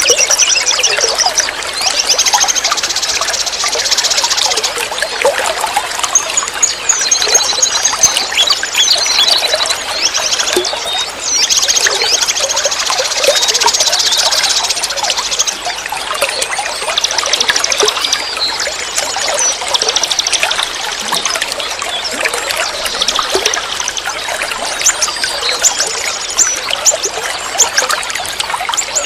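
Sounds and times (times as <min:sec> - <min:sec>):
songbirds trilling and chirping: 0:00.0 - 0:29.0
stream trickling: 0:00.0 - 0:29.0.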